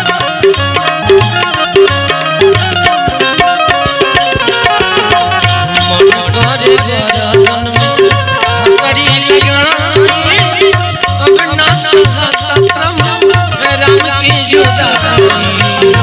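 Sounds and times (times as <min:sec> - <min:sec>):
banjo melody: 0:00.0 - 0:16.0
tabla rhythm: 0:00.0 - 0:16.0.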